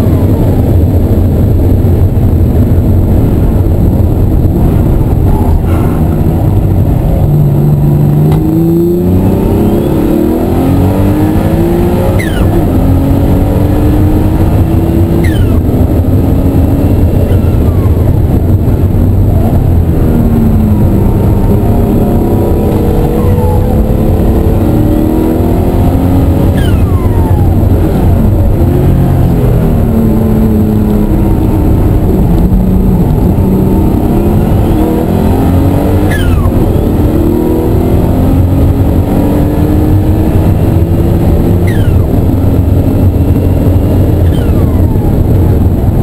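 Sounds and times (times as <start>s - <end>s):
car engine revving through gears: 0.0s - 46.0s
road and wind noise: 0.0s - 46.0s.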